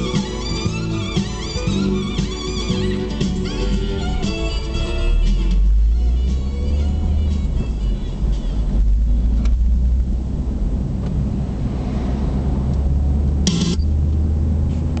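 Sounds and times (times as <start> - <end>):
car engine and tyres rumble: 0.0 - 15.0.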